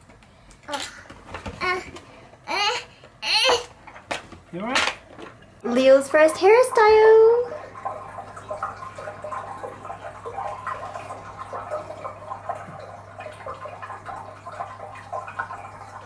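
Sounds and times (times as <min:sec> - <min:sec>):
bathwater splashing and dripping: 0:00.8 - 0:16.0.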